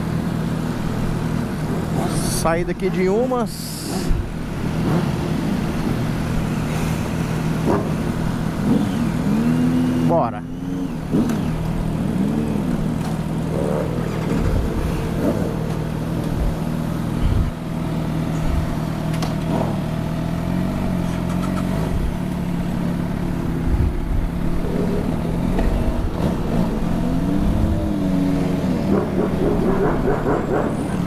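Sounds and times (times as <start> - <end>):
motorcycle engines idling: 0.0 - 31.0.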